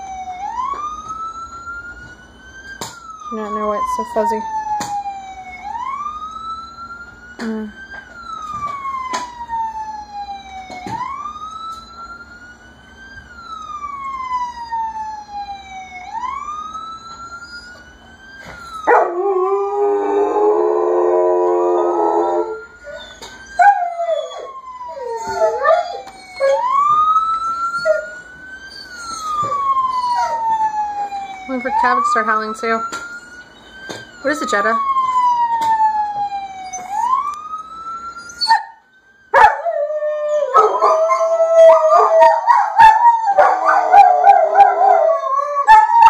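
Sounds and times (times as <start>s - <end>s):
police siren wailing: 0.0s - 46.0s.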